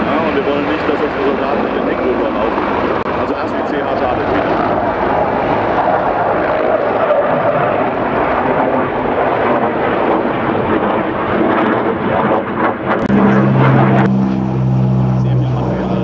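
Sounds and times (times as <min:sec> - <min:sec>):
helicopter rotor and turbine noise: 0:00.0 - 0:16.0.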